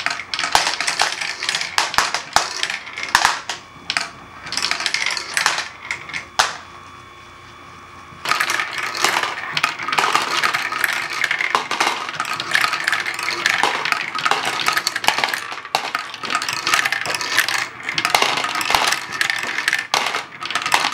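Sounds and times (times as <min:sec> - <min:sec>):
plastic balls clattering on bricks: 0:00.0 - 0:05.7, 0:08.2 - 0:20.9.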